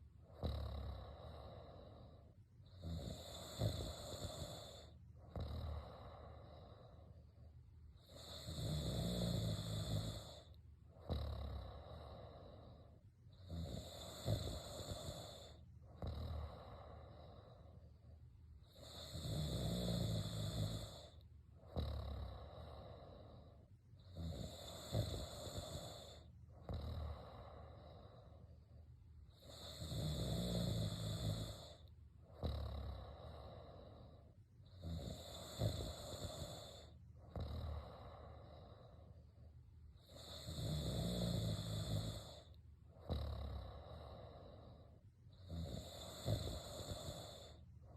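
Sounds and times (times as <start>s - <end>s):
person snoring: 0.3s - 7.2s, 8.0s - 17.8s, 18.6s - 28.5s, 29.3s - 39.2s, 40.0s - 47.6s.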